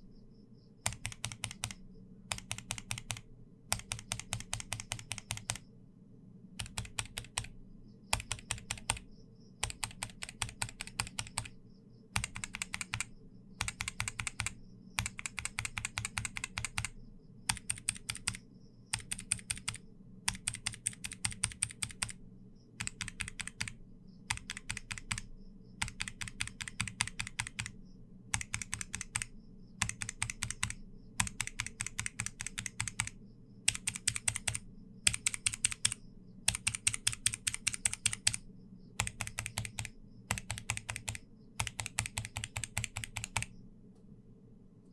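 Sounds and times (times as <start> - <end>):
mechanical keyboard typing: 0.8 - 5.6, 6.6 - 7.5, 8.1 - 11.6, 12.2 - 22.2, 22.8 - 38.4, 39.0 - 43.6.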